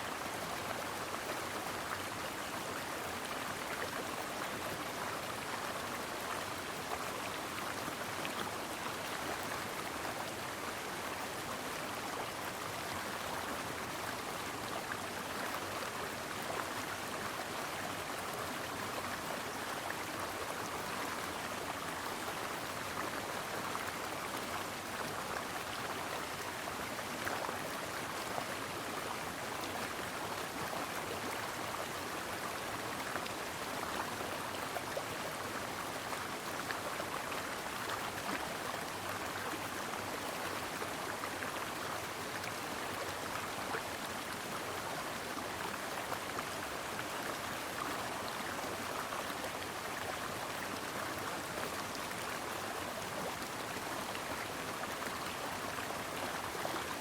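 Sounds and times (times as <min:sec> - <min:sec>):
stream babbling over rocks: 0:00.1 - 0:57.0.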